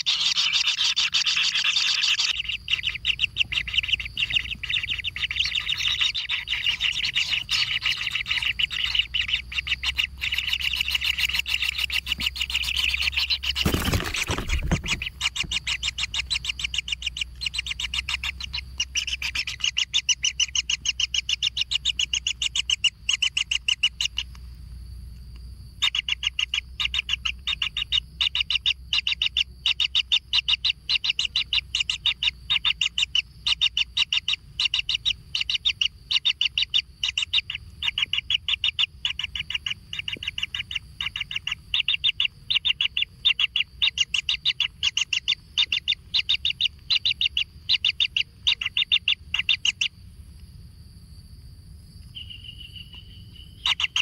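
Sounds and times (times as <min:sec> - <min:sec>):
nestlings begging calls: 0:00.0 - 0:24.3, 0:25.7 - 0:50.0, 0:52.2 - 0:54.0.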